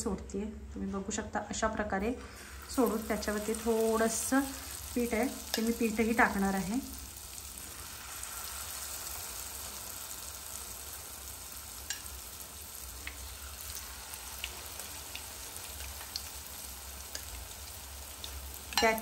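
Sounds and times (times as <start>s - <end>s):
potato slices frying in oil: 2.3s - 19.0s.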